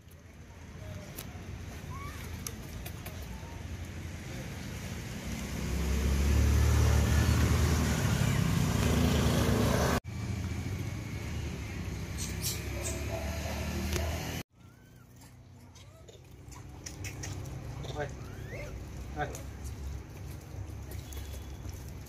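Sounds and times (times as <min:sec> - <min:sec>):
vehicle engine humming: 0:02.5 - 0:22.0.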